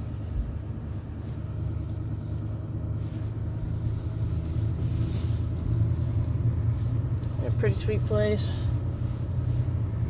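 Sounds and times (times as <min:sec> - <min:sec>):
vehicle engine and tyres rumbling: 0:00.0 - 0:10.0.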